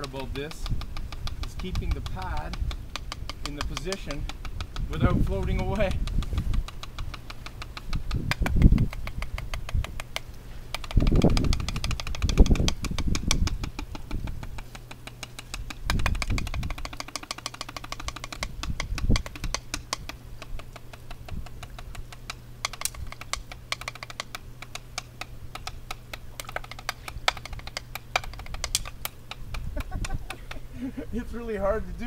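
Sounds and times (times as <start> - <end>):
drumsticks on practice pad: 0.0 - 30.7
low rumbles: 0.0 - 32.0
steady low hum: 0.0 - 32.0.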